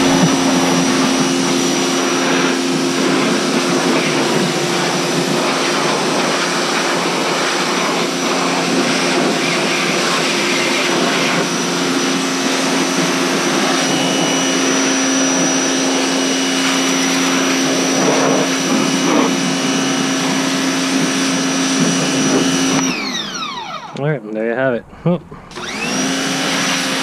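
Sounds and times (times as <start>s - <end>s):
high-pressure water spray hiss: 0.0s - 22.8s
pressure washer motor hum: 0.0s - 24.4s, 25.0s - 27.0s.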